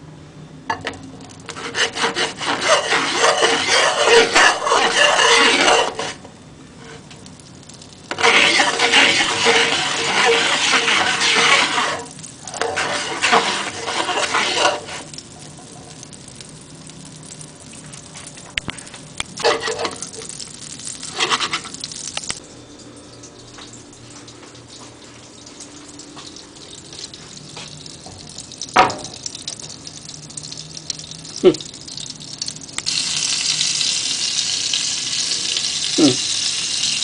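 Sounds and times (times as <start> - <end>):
butter sizzling in frying pan: 1.4 - 6.2, 6.9 - 22.4, 24.8 - 37.0.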